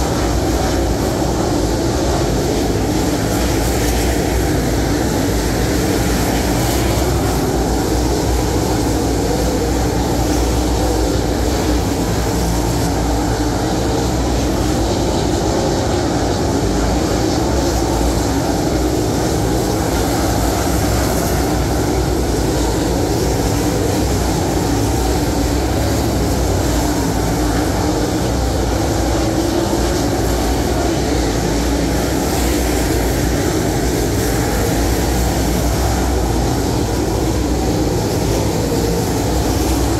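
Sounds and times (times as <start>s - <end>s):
race car engines roaring: 0.0s - 39.9s.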